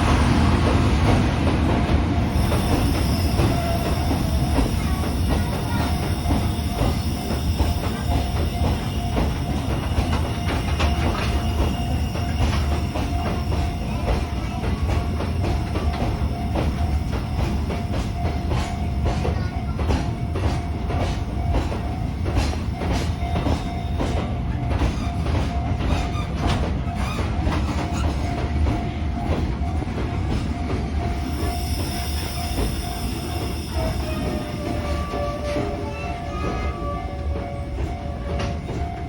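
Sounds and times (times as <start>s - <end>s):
electric train running past: 0.0s - 39.0s
wheels clicking over rail joints: 0.6s - 39.0s.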